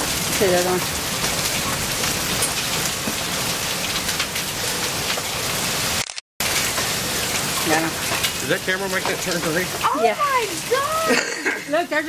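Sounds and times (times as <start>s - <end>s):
hail and rain clattering: 0.0s - 12.0s.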